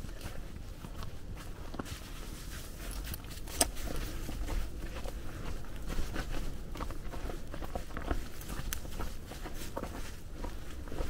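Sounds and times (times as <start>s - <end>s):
footsteps on snow: 0.0s - 11.0s.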